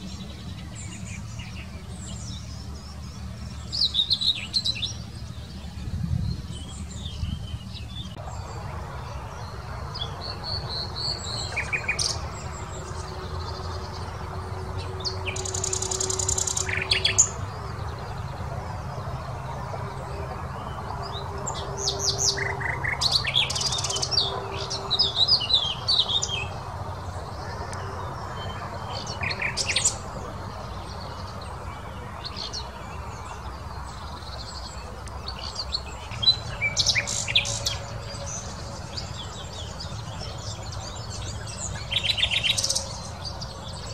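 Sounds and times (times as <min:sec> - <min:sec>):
nightingale singing: 0:00.0 - 0:43.9.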